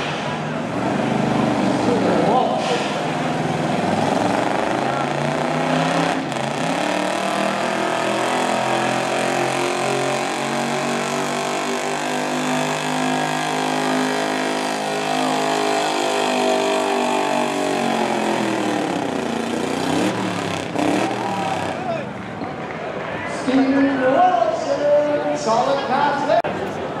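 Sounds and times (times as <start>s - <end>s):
truck engine at high revs: 0.0s - 22.5s.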